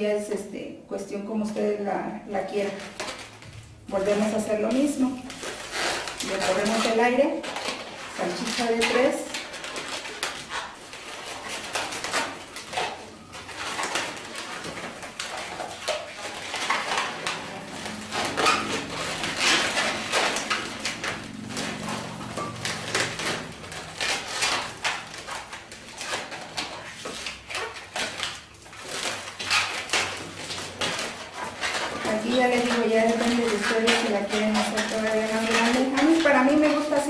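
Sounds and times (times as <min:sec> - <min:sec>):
balloons squeaking and rubbing: 0:02.3 - 0:37.0.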